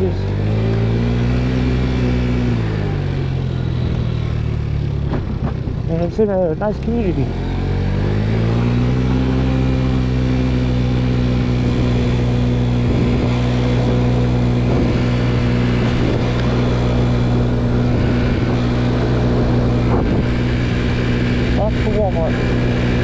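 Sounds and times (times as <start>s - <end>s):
scooter engine running steadily: 0.0s - 23.0s.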